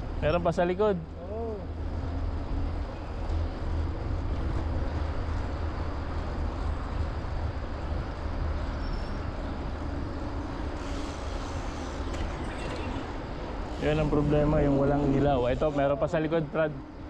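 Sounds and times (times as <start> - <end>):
bicycle tyres rolling on road: 0.0 - 17.0.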